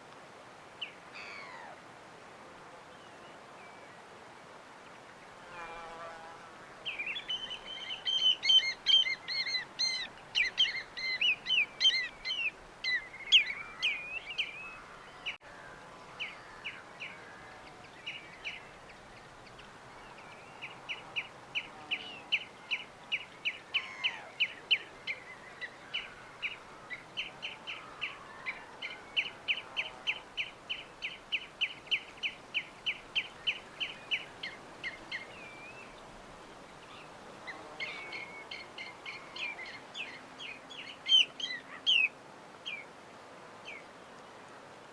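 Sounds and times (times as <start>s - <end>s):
songbirds chirping and trilling: 4.8s - 44.4s.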